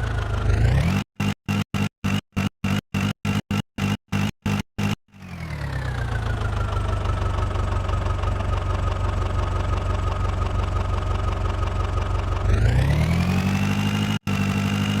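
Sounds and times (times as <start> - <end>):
diesel engine humming and whining: 0.0 - 15.0.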